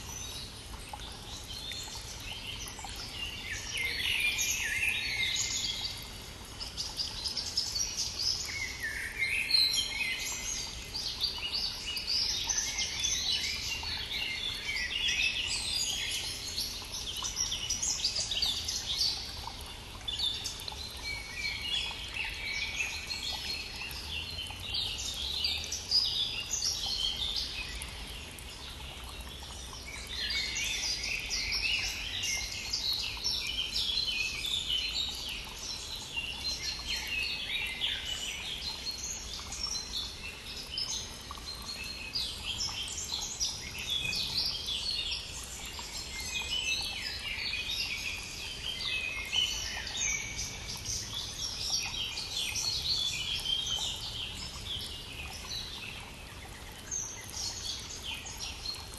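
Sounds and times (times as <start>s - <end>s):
faint brook rushing: 0.0s - 58.9s
songbirds singing and chirping: 0.0s - 58.9s.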